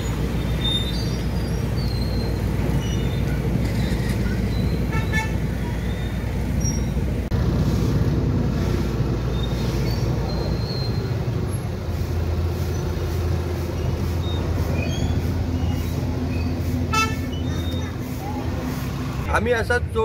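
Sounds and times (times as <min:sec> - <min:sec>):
low engine hum: 0:00.0 - 0:20.0
traffic noise: 0:00.0 - 0:20.0.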